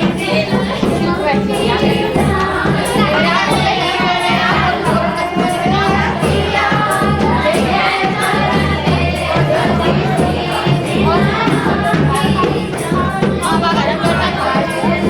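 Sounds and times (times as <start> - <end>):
person singing folk song: 0.0 - 15.0
steady percussion beat: 0.0 - 15.0.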